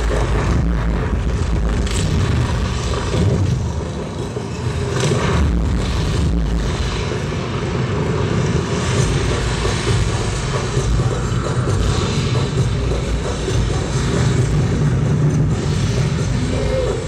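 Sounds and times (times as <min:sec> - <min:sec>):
engine-like rumbling drone: 0:00.0 - 0:17.0.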